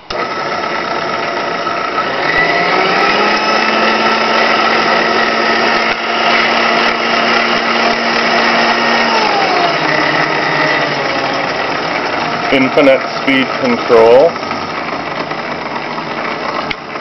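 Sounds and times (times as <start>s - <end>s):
stand mixer motor whining: 0.0s - 17.0s.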